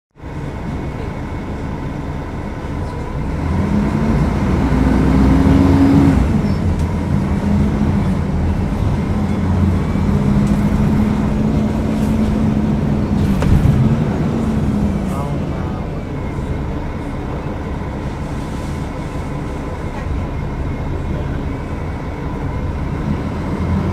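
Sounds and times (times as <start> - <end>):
bus diesel engine running: 0.1 - 23.9.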